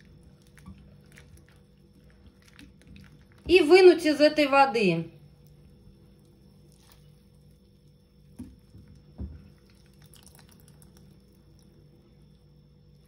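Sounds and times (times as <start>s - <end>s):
water drips and small splashes: 0.0s - 3.7s, 5.3s - 13.0s.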